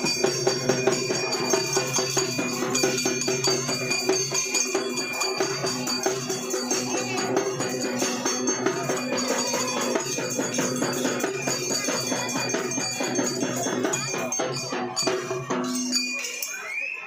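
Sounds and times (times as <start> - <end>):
music with fast percussion beat: 0.0 - 17.0.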